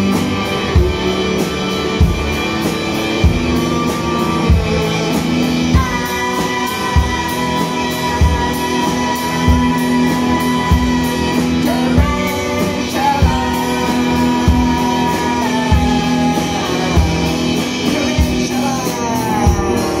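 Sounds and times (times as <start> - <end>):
drum kit: 0.0 - 20.0
electric guitar: 0.0 - 20.0.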